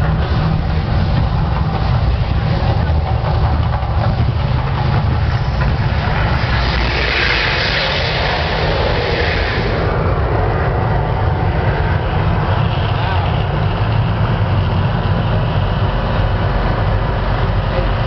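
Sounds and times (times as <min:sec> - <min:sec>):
deep rumble: 0:00.0 - 0:18.0
fire jets rushing hiss: 0:00.0 - 0:18.0.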